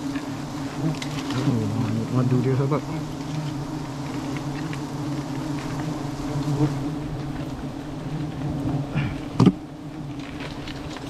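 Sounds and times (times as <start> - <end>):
swarm of bees buzzing: 0.0 - 11.0.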